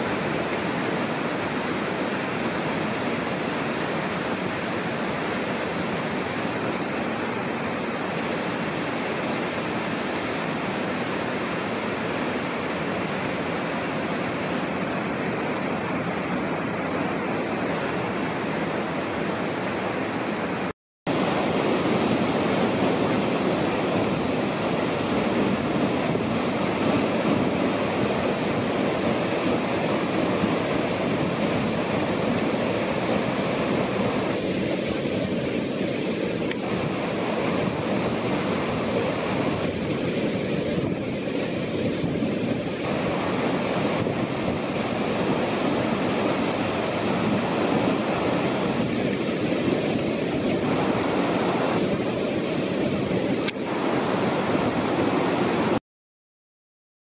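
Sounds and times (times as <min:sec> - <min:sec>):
waterfall rushing: 0:00.0 - 0:55.8.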